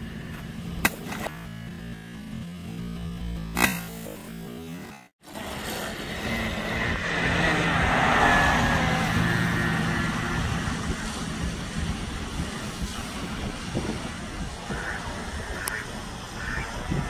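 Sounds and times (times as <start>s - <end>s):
rc boat motor whine: 0.0s - 17.0s.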